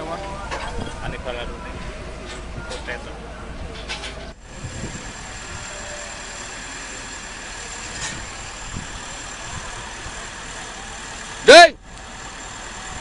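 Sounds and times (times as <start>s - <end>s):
excavator diesel engine running: 0.0s - 13.0s
thin high whine: 0.0s - 13.0s.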